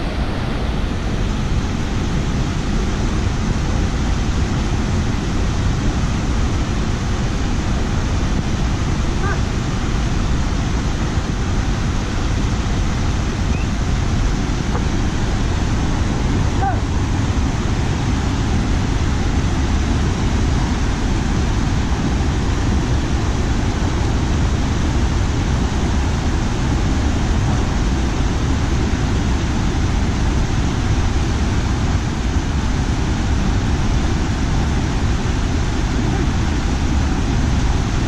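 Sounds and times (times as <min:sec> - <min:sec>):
stream rushing over rocks: 0:00.0 - 0:38.0.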